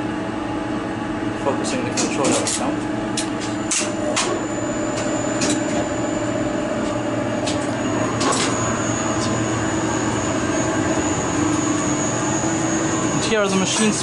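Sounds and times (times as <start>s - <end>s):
lift machinery hum and whine: 0.0s - 14.0s.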